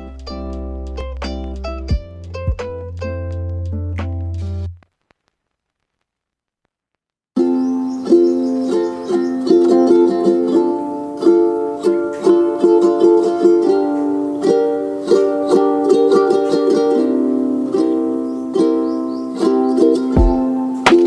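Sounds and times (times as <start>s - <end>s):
plucked ukulele-like chords: 0.0s - 4.7s, 7.4s - 21.0s.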